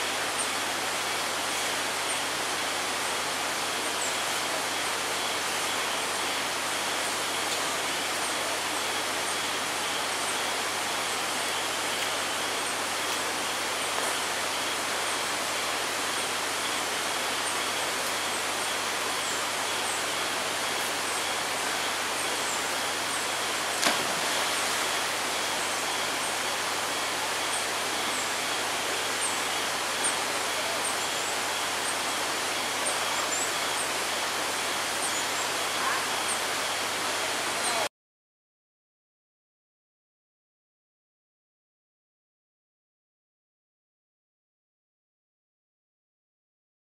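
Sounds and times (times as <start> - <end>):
rushing hiss of outdoor ambience: 0.0 - 37.9.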